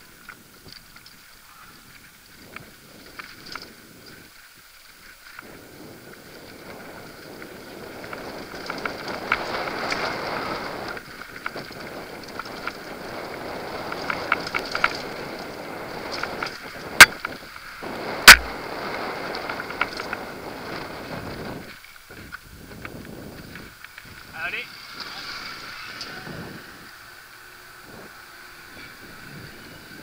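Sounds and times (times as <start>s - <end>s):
bike rattling and clicking: 0.0s - 30.0s
bike tyres on loose gravel: 0.0s - 30.0s.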